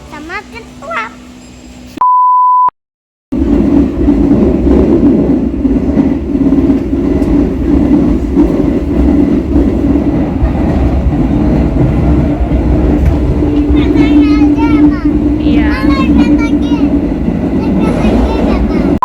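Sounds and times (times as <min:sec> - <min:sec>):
train rumbling: 0:03.3 - 0:19.0.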